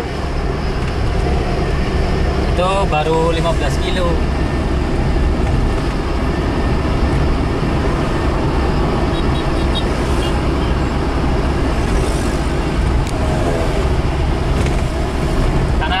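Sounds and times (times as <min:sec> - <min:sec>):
car engine drone: 0:00.0 - 0:16.0
tyre and road noise: 0:00.0 - 0:16.0.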